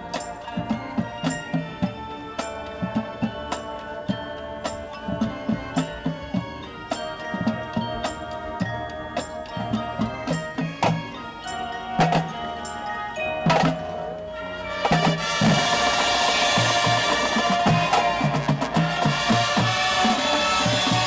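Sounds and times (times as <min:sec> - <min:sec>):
drum and mallet percussion strikes: 0:00.0 - 0:21.0
marching band playing: 0:00.0 - 0:21.0.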